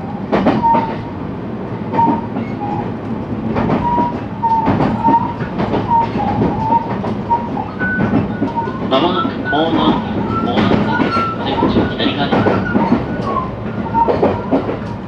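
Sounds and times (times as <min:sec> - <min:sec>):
train rumble: 0:00.0 - 0:15.0
train wheels clacking over rail joints: 0:00.3 - 0:01.1, 0:01.8 - 0:15.0.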